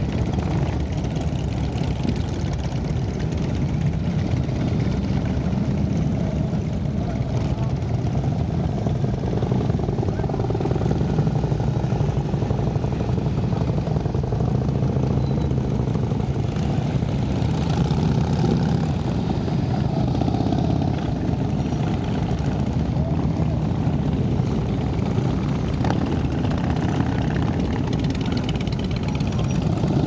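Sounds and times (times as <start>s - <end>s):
motorcycles rumbling past: 0.0s - 30.0s.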